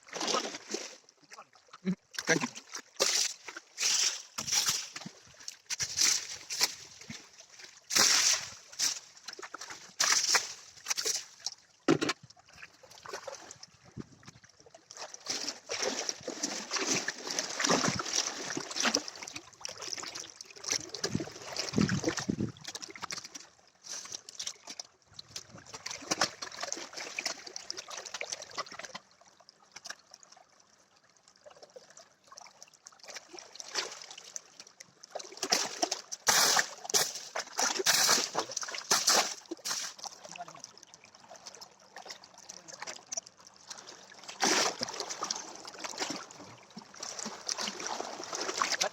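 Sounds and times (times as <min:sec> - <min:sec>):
water splashing and sloshing: 0:00.0 - 0:48.9.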